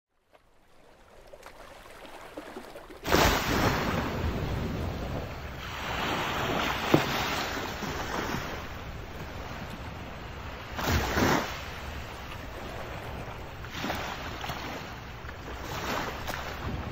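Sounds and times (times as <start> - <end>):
waves washing onto shore: 0.6 - 16.9
wind on microphone: 3.1 - 16.9.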